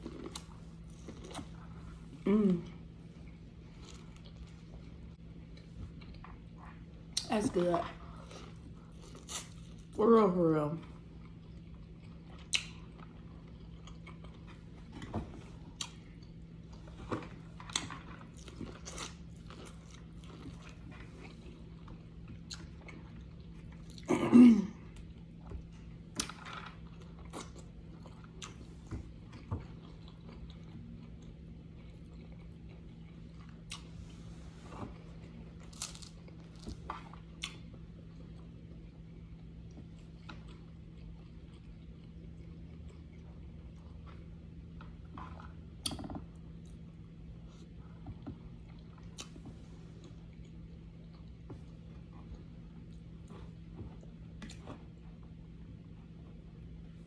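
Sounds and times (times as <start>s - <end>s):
person chewing food: 0.0s - 10.0s, 10.8s - 24.1s, 24.8s - 57.0s
faint steady hum: 0.0s - 57.0s.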